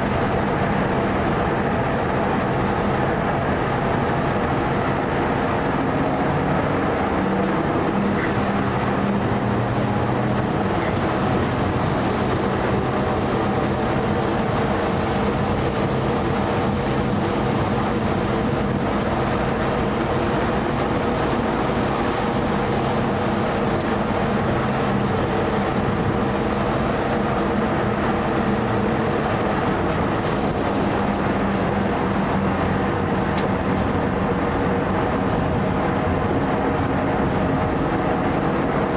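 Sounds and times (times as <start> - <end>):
car engine from inside cabin: 0.0 - 38.9
road and wind noise: 0.0 - 38.9.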